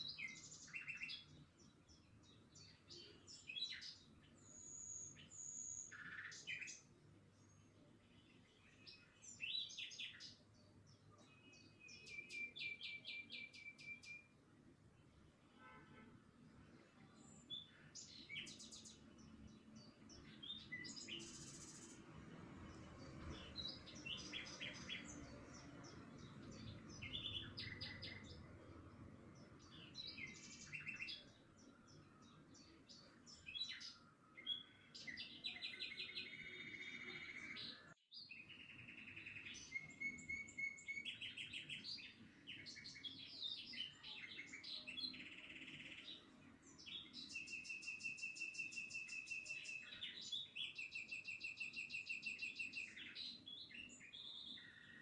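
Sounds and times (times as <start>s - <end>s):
birds chirping and trilling: 0.0s - 14.4s, 16.4s - 55.0s.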